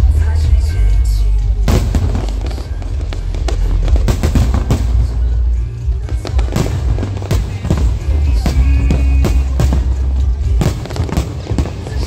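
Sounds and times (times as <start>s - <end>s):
fireworks bursting with bangs: 0.0s - 12.0s
music playing: 0.0s - 12.0s.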